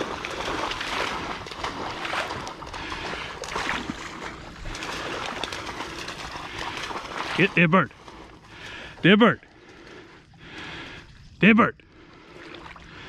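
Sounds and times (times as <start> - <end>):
wading through shallow water: 0.0 - 13.0.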